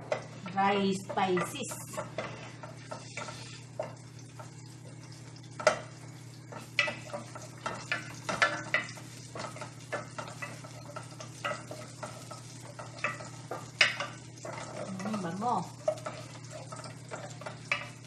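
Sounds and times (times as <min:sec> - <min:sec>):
spices frying in oil: 0:00.0 - 0:18.0
wooden spatula scraping a pot: 0:00.9 - 0:04.0, 0:06.6 - 0:18.0.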